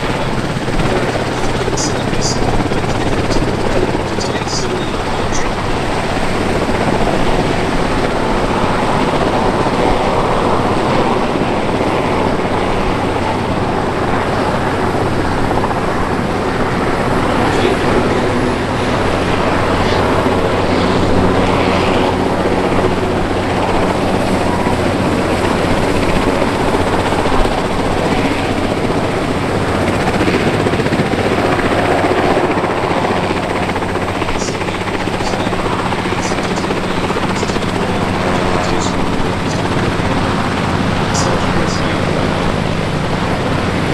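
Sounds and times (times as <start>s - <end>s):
helicopter turbine whine: 0.0s - 43.9s.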